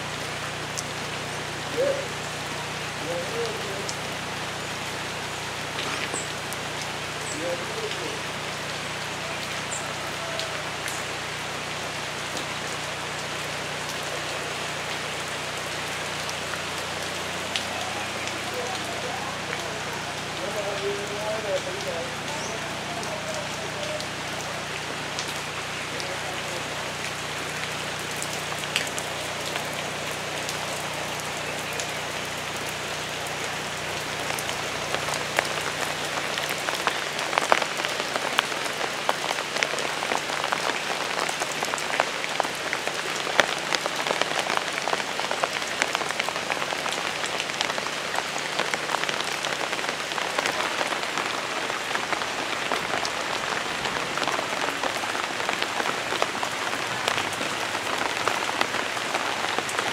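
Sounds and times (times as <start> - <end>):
rain on paving and leaves: 0.0 - 59.9
sharp close drips: 0.0 - 59.9.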